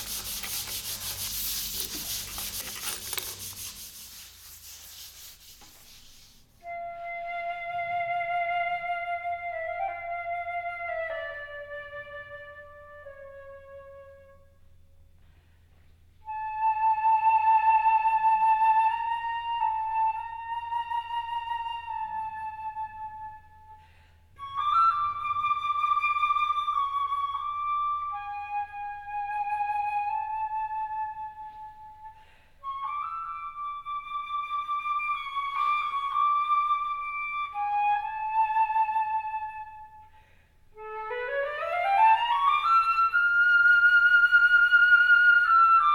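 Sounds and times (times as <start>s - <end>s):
solo flute melody: 6.6s - 14.8s, 16.2s - 45.9s.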